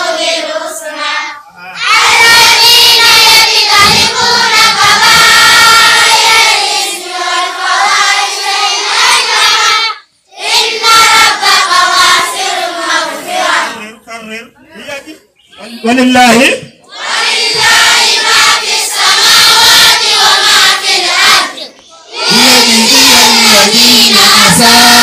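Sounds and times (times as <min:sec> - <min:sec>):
children chanting in unison: 0:00.0 - 0:13.8, 0:16.9 - 0:25.0.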